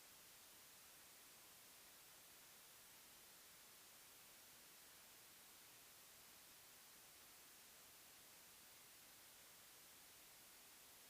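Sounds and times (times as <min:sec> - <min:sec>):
faint white-noise hiss: 0:00.0 - 0:11.0.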